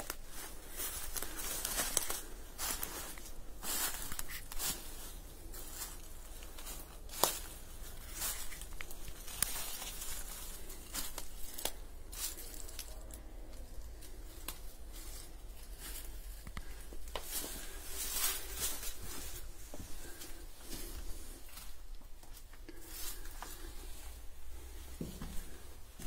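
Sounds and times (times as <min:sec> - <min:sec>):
footsteps on leaves and debris: 0:00.0 - 0:24.0
steady low rumble: 0:00.0 - 0:26.0.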